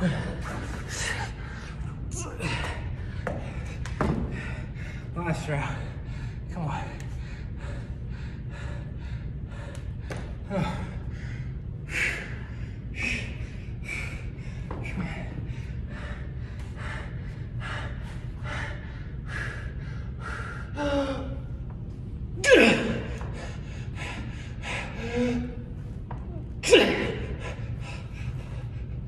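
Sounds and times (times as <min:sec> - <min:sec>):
man breathing hard: 0:00.0 - 0:29.0.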